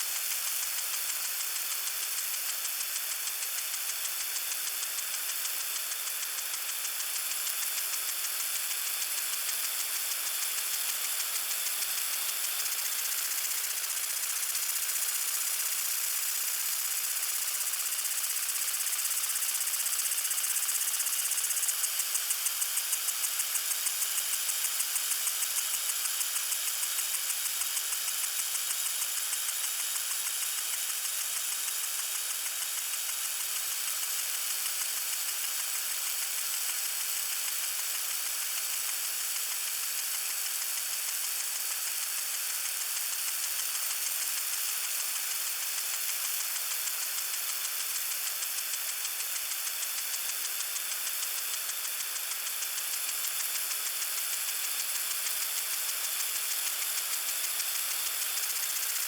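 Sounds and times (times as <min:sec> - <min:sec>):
lawn sprinkler spraying water: 0:00.0 - 0:59.0.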